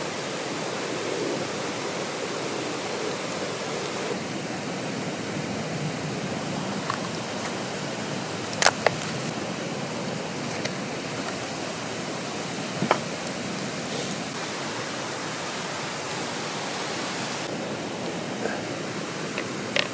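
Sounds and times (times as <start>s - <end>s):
mountain stream rushing: 0.0s - 19.9s.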